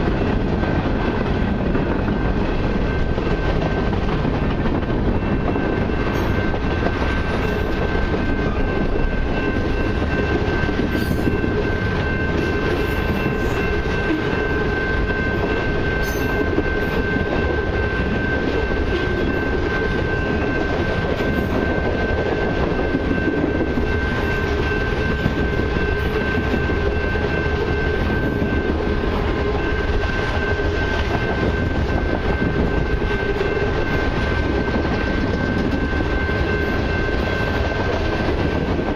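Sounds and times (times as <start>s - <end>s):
high-pitched ringing tone: 0.0s - 38.9s
train wheels rumbling on rails: 0.0s - 38.9s.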